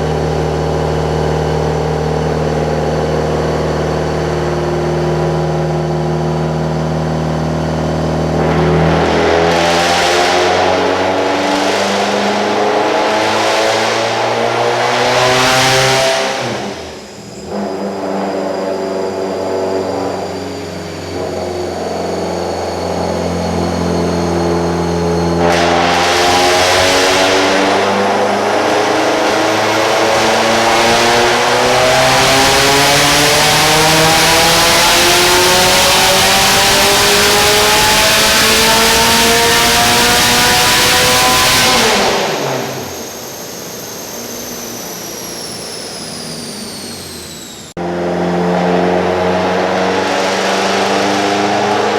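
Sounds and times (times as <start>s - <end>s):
car engine revving on dyno: 0.0s - 51.9s
high whine falling in pitch: 0.0s - 51.9s.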